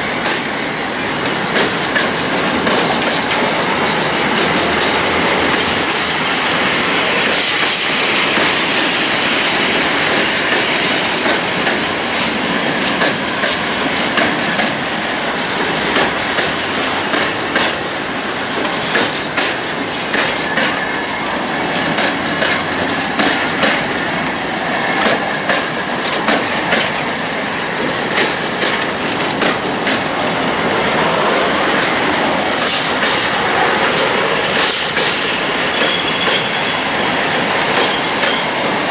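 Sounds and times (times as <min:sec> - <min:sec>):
train rolling noise: 0:00.0 - 0:38.9
train wheels clicking over rail joints: 0:00.0 - 0:38.9.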